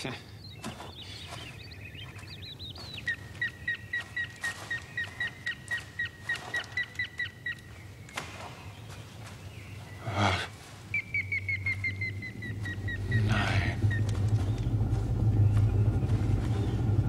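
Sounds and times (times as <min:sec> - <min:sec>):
bird trill and chirps: 0:00.2 - 0:17.0.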